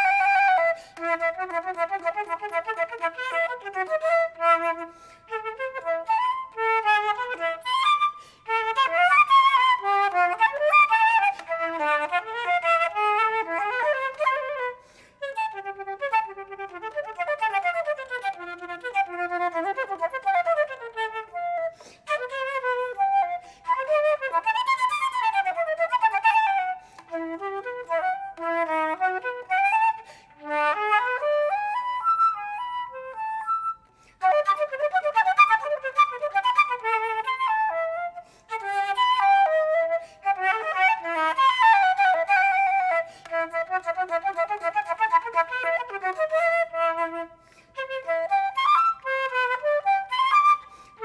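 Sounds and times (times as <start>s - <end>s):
solo flute playing: 0.0s - 51.0s.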